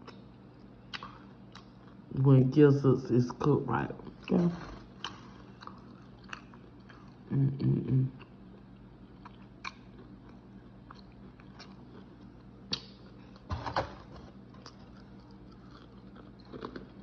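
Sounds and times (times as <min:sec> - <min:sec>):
chewing crispy food: 0:00.0 - 0:02.2, 0:03.9 - 0:13.5, 0:14.3 - 0:17.0
faint steady hum: 0:00.0 - 0:17.0.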